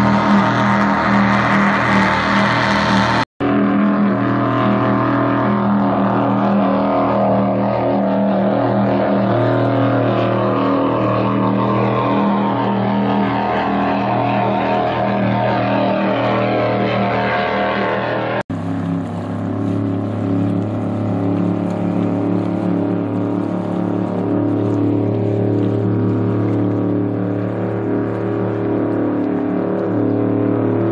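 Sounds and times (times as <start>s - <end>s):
powerboat engines droning: 0.0s - 30.9s.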